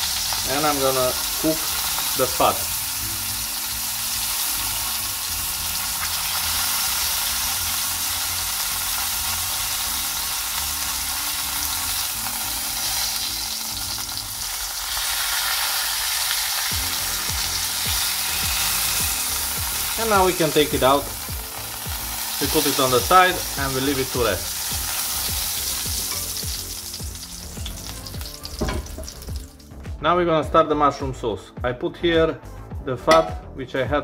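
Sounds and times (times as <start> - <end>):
steak sizzling in a frying pan: 0.0 - 29.6.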